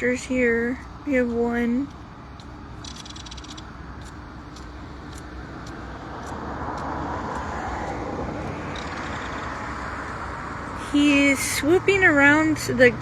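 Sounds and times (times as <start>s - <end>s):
passing vehicle: 0.0s - 13.0s.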